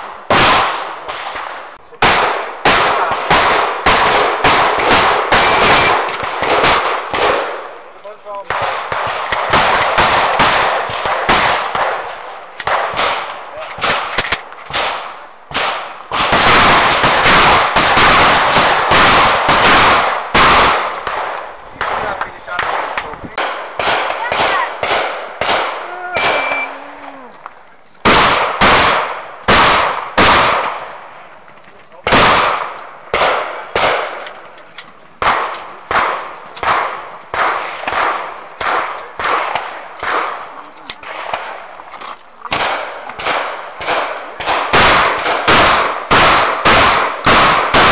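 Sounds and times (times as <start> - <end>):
shotgun shots: 0.0 - 26.8, 28.0 - 31.1, 31.9 - 34.5, 35.2 - 41.8, 42.5 - 47.9.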